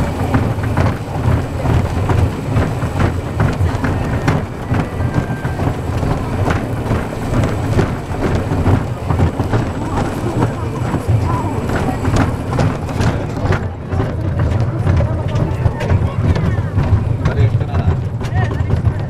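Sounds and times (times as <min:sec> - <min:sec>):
train rumbling on track: 0:00.0 - 0:19.0
wheels clicking and rattling: 0:00.0 - 0:19.0.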